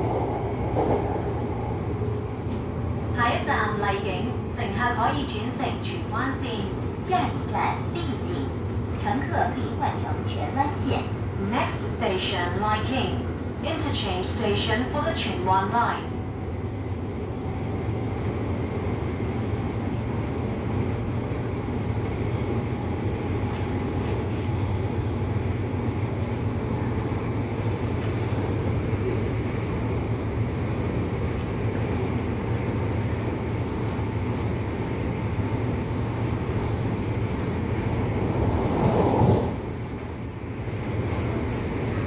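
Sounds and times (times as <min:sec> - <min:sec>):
faint train whine: 0:00.0 - 0:42.0
train wheels rumbling on track: 0:00.0 - 0:42.0.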